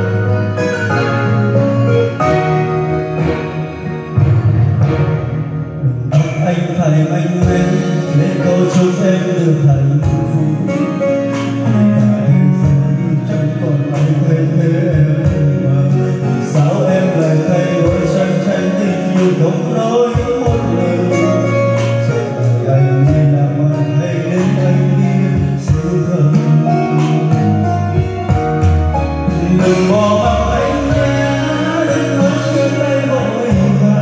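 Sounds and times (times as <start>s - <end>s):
guitar backing music: 0.0s - 34.0s
person singing slow ballad: 0.0s - 34.0s.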